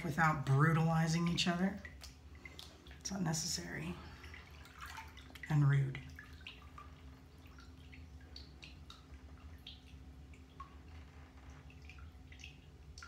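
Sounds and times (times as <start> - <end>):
water dripping in bathtub: 0.0 - 13.0.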